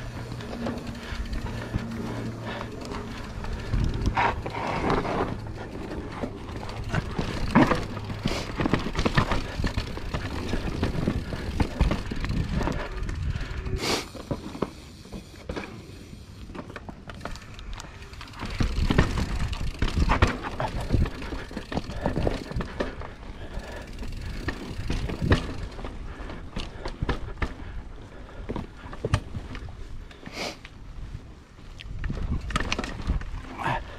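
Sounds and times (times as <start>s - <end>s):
bike knocks and rattles: 0.0s - 29.8s, 31.9s - 33.9s
bike tyres rumbling over rocks: 0.0s - 30.0s.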